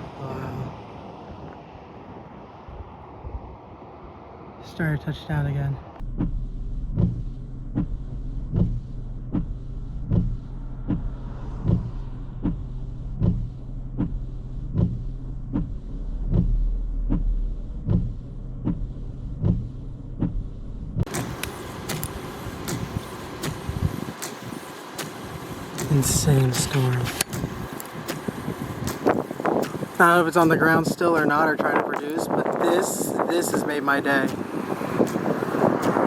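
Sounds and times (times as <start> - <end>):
vehicle engine hum: 0.0 - 36.0
regular sharp ticking: 6.0 - 20.4, 21.0 - 36.0.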